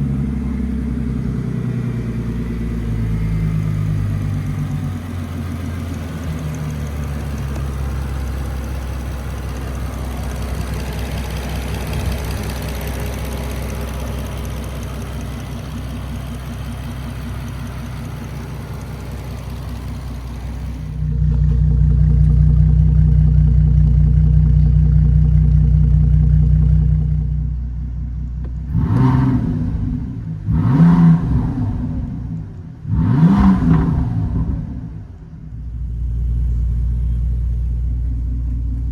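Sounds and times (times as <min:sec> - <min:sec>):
car engine revving: 0:00.0 - 0:27.4, 0:28.5 - 0:38.9
car engine droning: 0:00.0 - 0:38.9.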